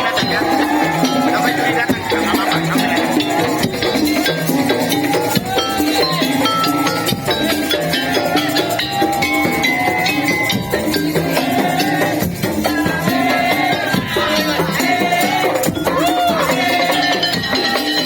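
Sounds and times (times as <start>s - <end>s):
shaker rhythm: 0.0s - 18.0s
steady percussion: 0.0s - 18.0s.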